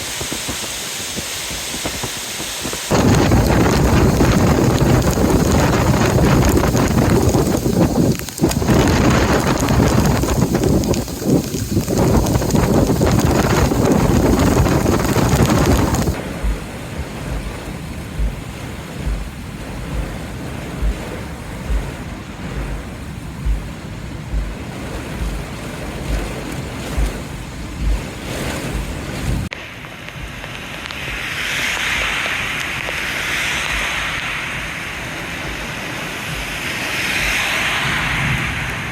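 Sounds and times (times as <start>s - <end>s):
heavy rain: 0.0s - 38.9s
strong storm wind: 0.0s - 38.9s
low rhythmic thumps: 1.5s - 31.2s, 35.4s - 37.6s.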